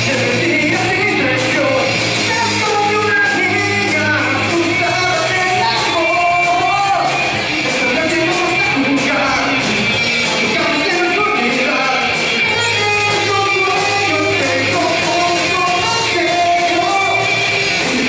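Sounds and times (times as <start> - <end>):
live rock band playing: 0.0 - 18.0
man singing: 0.0 - 18.0.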